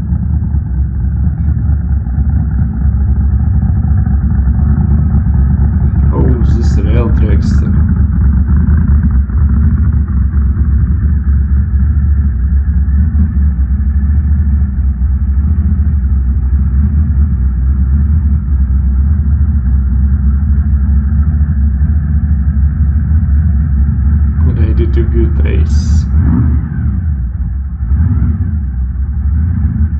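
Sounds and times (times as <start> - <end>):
car engine through loud exhaust: 0.0 - 29.9.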